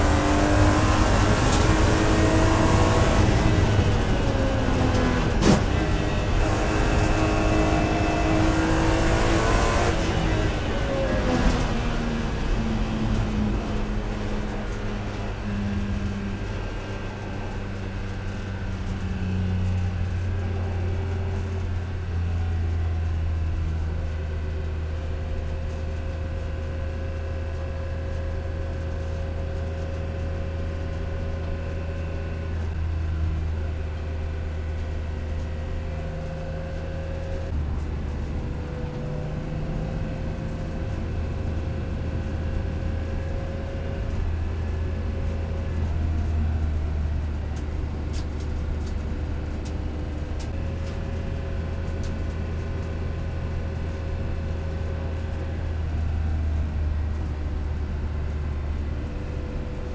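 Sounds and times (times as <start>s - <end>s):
car engine droning in cabin: 0.0s - 59.9s.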